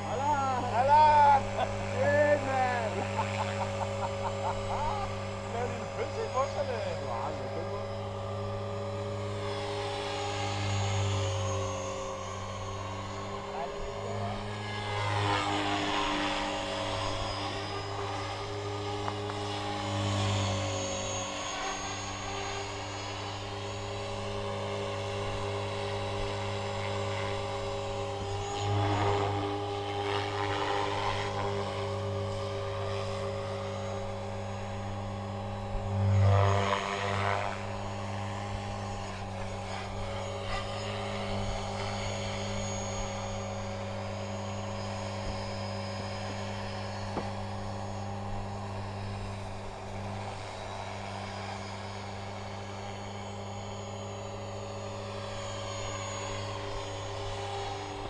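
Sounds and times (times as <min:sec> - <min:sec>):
rc helicopter buzzing hum: 0:00.0 - 0:58.0.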